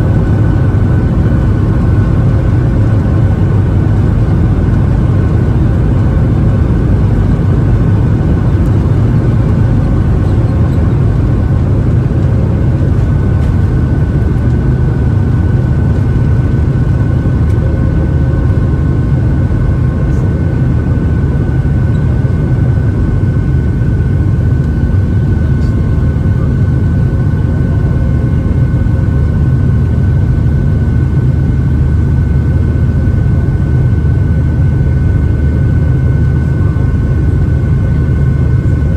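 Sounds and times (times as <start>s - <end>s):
airliner cabin rumble and rush: 0.0s - 38.9s
thin steady engine whine: 0.0s - 38.9s.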